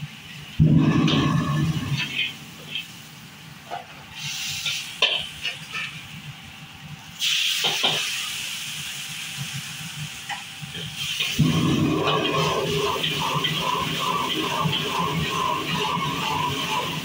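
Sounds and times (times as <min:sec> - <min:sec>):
wok burner rushing: 0:00.0 - 0:06.4, 0:07.1 - 0:17.0
loud sizzle: 0:00.0 - 0:17.0.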